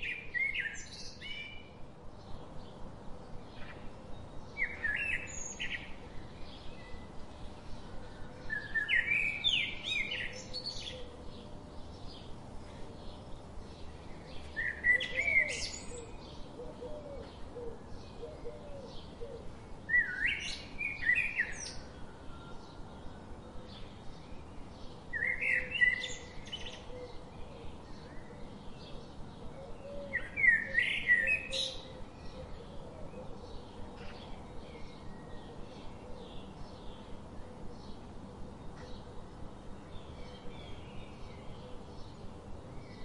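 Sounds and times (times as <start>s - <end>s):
bird chirping: 0.0s - 43.0s.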